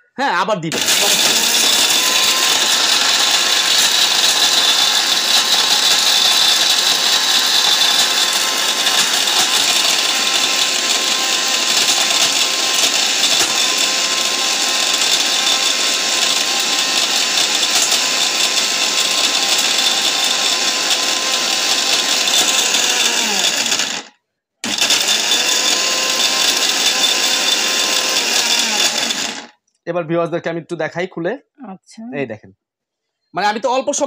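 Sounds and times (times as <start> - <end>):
mixer grinder motor whining: 0.7 - 29.5.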